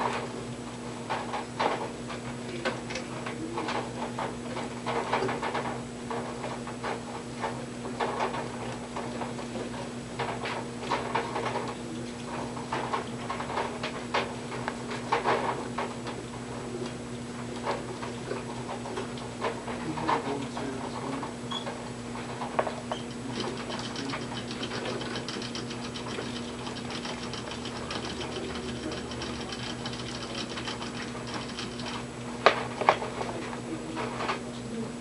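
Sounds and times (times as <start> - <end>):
low electrical hum: 0.0 - 35.0
light scratching and clicking: 1.1 - 34.4.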